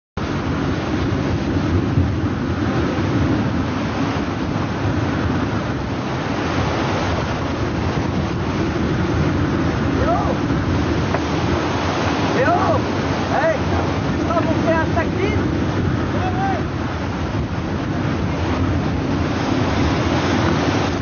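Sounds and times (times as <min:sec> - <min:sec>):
rough sea breaking around boat: 0:00.2 - 0:21.0
wind buffeting microphone: 0:00.2 - 0:21.0.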